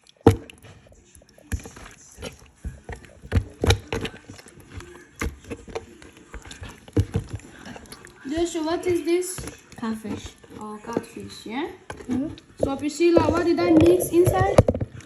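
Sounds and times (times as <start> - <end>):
utensils knocking and tapping: 0.0 - 15.0.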